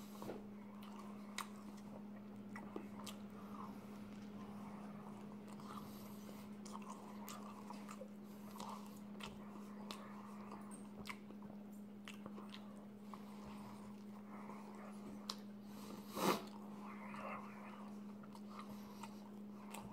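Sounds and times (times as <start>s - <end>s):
wet chewing mouth sounds: 0.1s - 19.9s.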